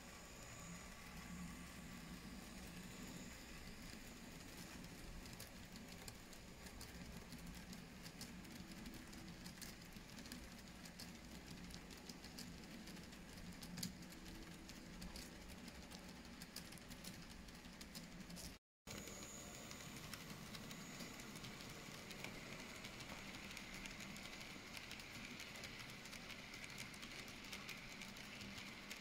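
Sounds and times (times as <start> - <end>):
model train wheels clicking: 0.0 - 29.0.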